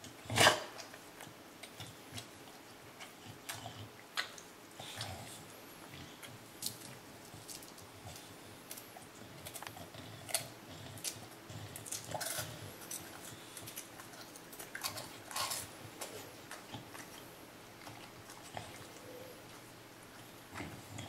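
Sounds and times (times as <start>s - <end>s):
dog crunching and chewing: 0.0s - 21.0s.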